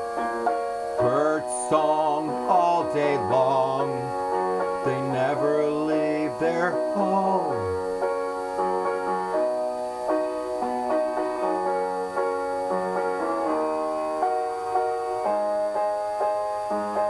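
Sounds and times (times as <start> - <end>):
keyboard playing held chords: 0.0 - 17.0.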